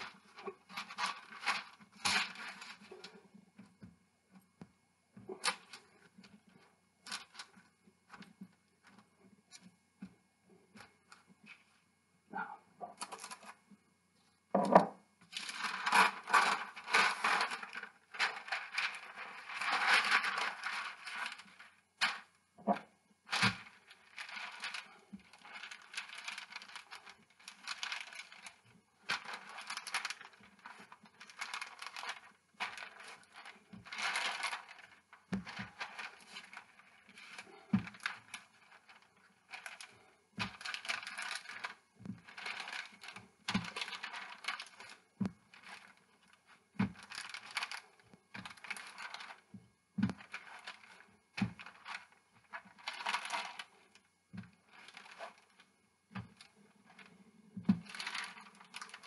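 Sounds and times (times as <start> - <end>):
parchment paper crinkling: 0.0 - 59.0.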